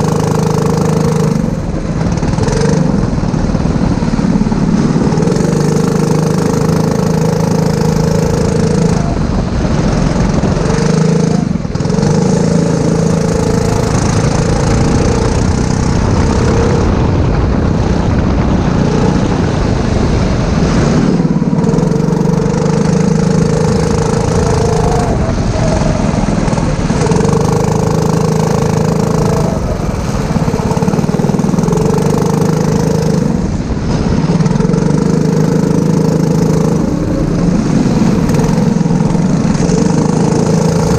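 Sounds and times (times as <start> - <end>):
go-kart engine at high revs: 0.0 - 40.9.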